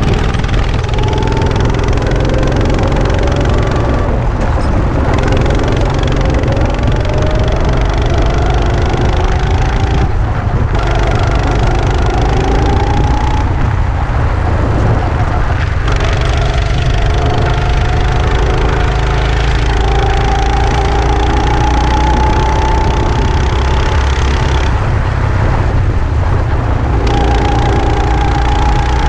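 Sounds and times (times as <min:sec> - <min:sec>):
go-kart engine revving: 0:00.0 - 0:29.0.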